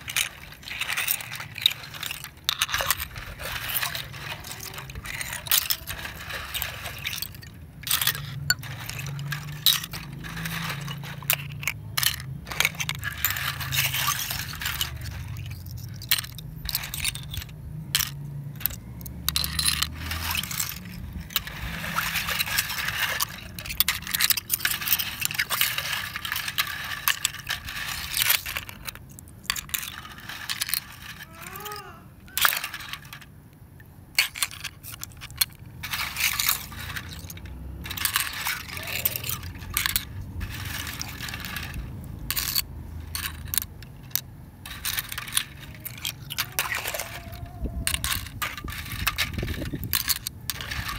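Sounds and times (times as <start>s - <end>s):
hand stirring through shells: 0.0s - 50.9s
shells clinking and scraping: 0.0s - 50.9s.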